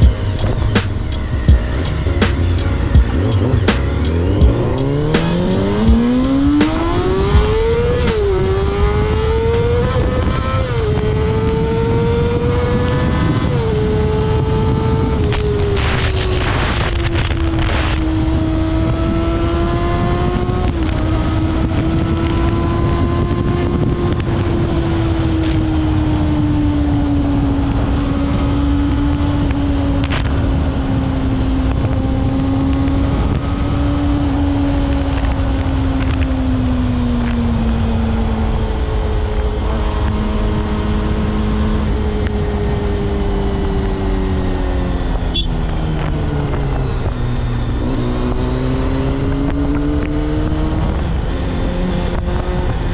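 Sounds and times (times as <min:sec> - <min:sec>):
low wind rush: 0:00.0 - 0:52.9
motorcycle engine at high revs: 0:00.0 - 0:52.9.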